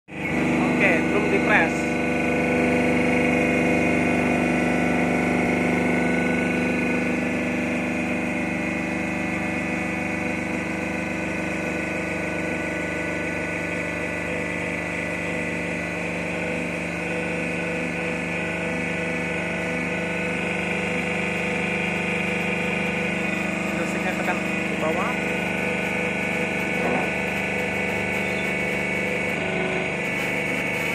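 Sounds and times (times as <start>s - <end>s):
hydraulic press motor humming: 0.1s - 30.9s.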